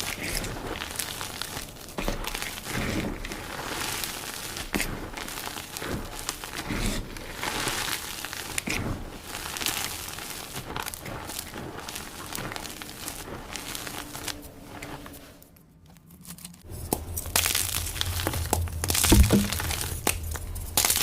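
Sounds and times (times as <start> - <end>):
chalk blocks being crushed: 0.0 - 14.1, 16.3 - 21.0.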